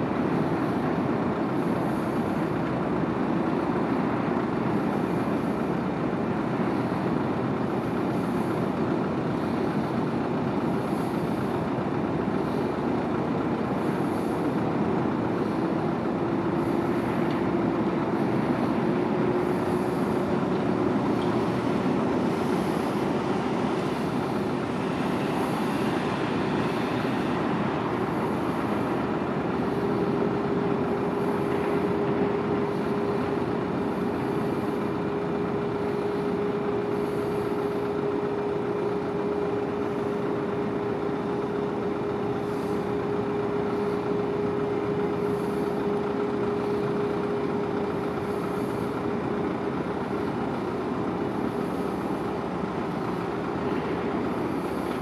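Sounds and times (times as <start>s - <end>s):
faint hum: 0.0s - 55.0s
ship engines droning: 0.0s - 55.0s.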